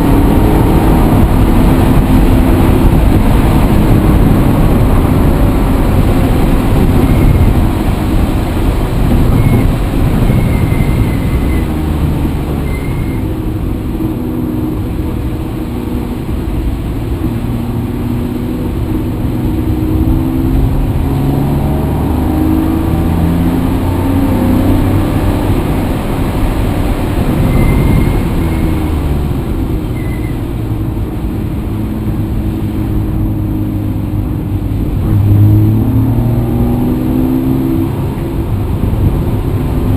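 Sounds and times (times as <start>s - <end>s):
vehicle engine running: 0.0s - 36.7s.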